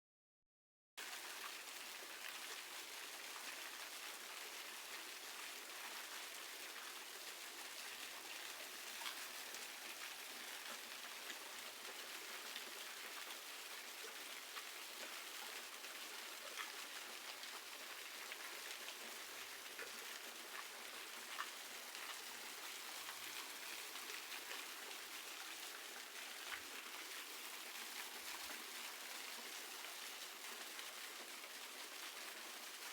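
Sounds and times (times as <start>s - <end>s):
rush of falling water: 1.0s - 32.9s.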